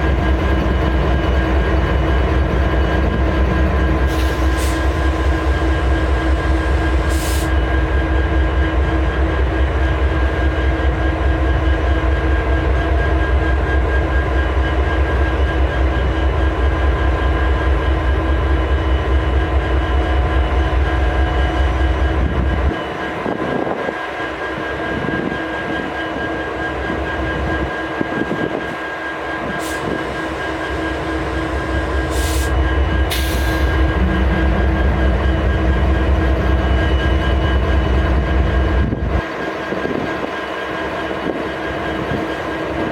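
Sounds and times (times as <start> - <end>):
locomotive engine droning: 0.0 - 42.9.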